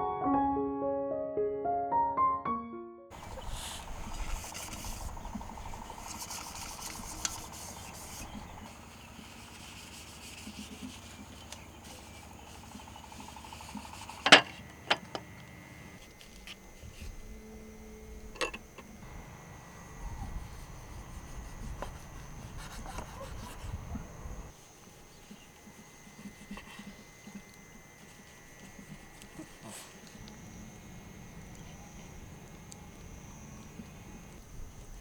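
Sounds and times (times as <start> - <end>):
outdoor background noise: 3.1 - 35.0.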